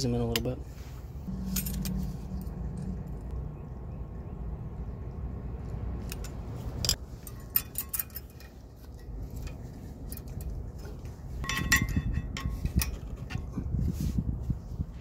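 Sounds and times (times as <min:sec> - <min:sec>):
low background rumble: 0:01.0 - 0:15.0.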